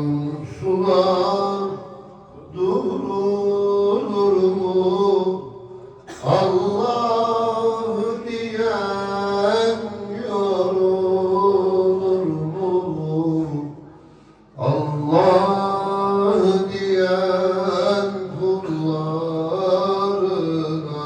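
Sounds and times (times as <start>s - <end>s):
man singing a hymn: 0.0s - 13.9s, 14.5s - 21.0s.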